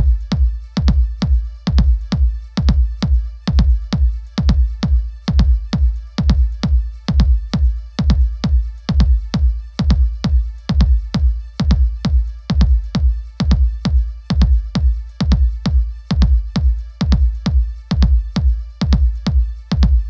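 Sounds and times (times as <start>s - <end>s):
drum machine beat: 0.0s - 20.0s
electronic dance music: 0.0s - 20.0s
heavy bass: 0.0s - 20.0s.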